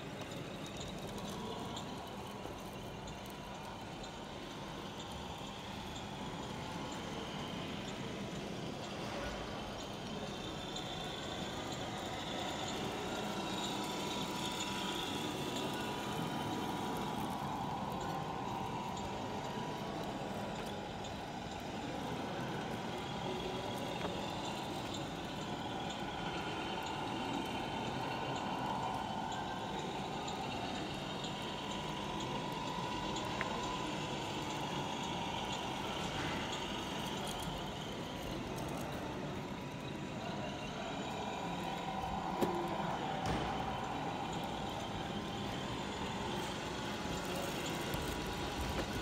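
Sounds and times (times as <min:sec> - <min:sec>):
hall background noise: 0:00.0 - 0:49.0
model truck motor humming: 0:00.0 - 0:49.0.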